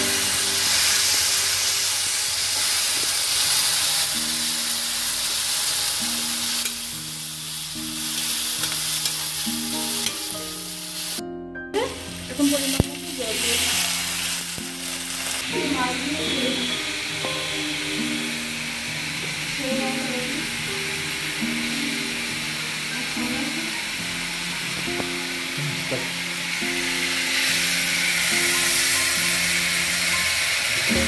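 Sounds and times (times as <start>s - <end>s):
paste sizzling in a pan: 0.0s - 11.2s, 11.9s - 31.0s.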